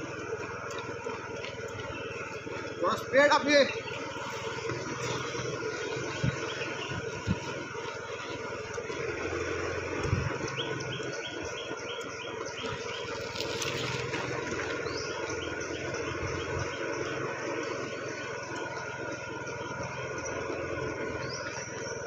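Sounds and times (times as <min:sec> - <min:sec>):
bird chirping: 0:00.0 - 0:22.0
small vehicle engine running: 0:00.0 - 0:22.0.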